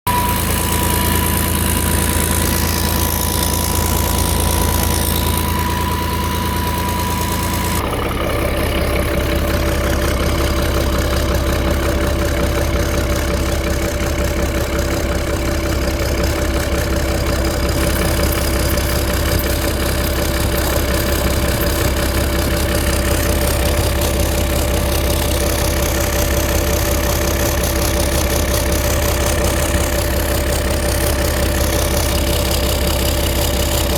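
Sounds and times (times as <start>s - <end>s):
boat engine idling: 0.1s - 33.9s.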